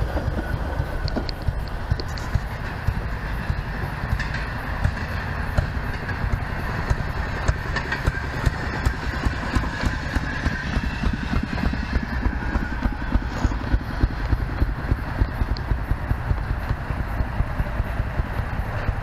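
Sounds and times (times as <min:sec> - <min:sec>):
sharp clicks over rails: 0:00.0 - 0:19.0.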